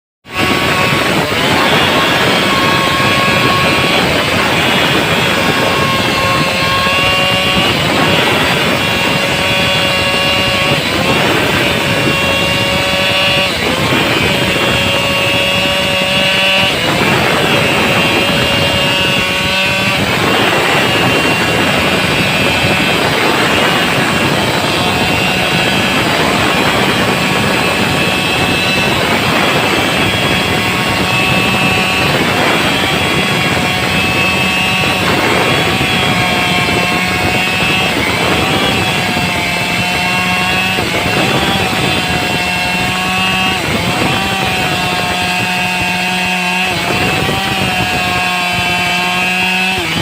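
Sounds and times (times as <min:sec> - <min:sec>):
chainsaw engine at full throttle: 0:00.2 - 0:50.0.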